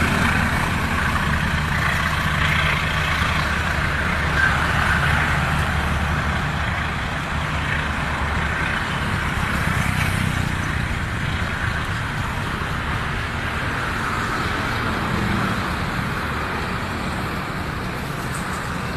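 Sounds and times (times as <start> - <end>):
low engine drone: 0.0 - 18.9
train running rumble: 0.0 - 18.9
wheels on rails: 0.0 - 18.9.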